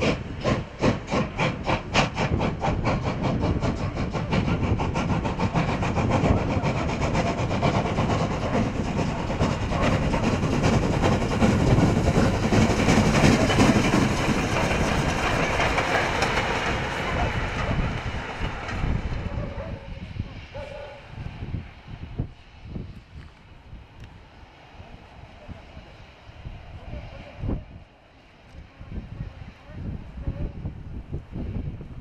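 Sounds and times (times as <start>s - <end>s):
steam locomotive exhaust beats: 0.0s - 32.0s.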